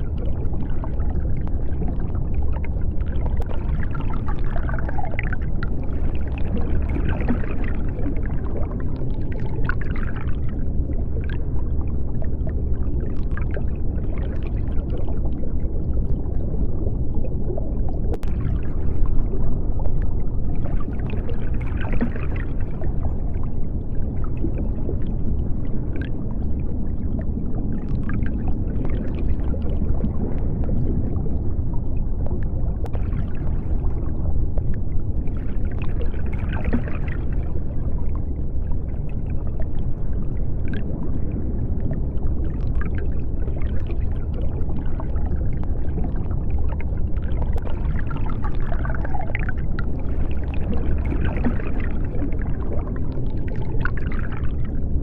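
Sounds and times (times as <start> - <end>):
deep underwater rumble: 0.0 - 55.0
underwater water noise: 0.0 - 55.0.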